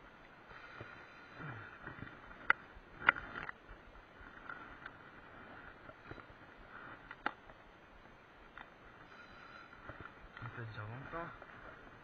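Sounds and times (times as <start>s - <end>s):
faint rustle: 0.0s - 12.0s.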